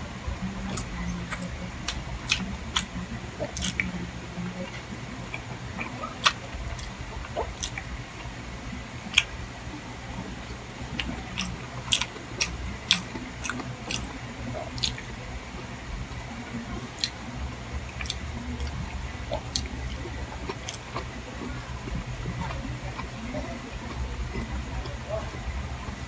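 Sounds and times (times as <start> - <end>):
steady low hum: 0.0 - 26.0
chewing with wet mouth smacks: 0.4 - 4.0, 4.6 - 8.4, 9.0 - 9.4, 10.0 - 15.2, 16.1 - 26.0.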